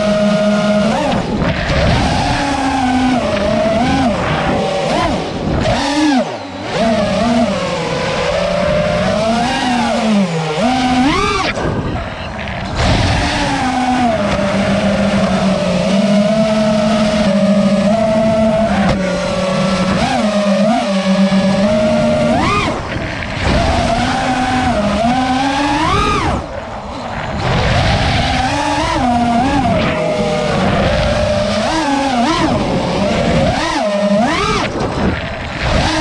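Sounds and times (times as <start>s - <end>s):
quadcopter motors whining: 0.0s - 36.0s.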